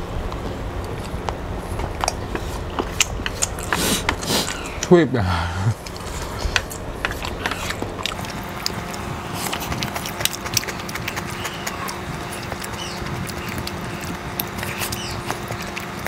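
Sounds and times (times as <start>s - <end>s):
steady low hum: 0.0s - 16.0s
chewing and slurping noodles: 0.4s - 4.9s, 5.6s - 16.0s
wet mouth clicks and smacks: 0.8s - 4.9s, 5.8s - 16.0s.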